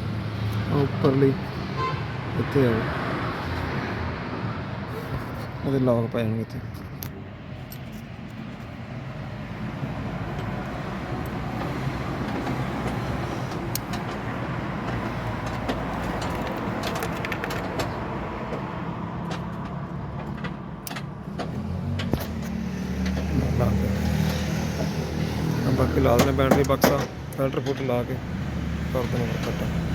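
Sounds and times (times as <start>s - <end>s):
motor vehicle rumble: 0.0s - 29.9s.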